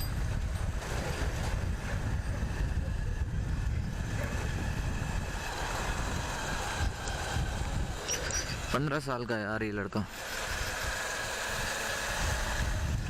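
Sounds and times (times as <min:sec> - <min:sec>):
wind buffeting microphone: 0:00.0 - 0:09.1, 0:10.2 - 0:13.0.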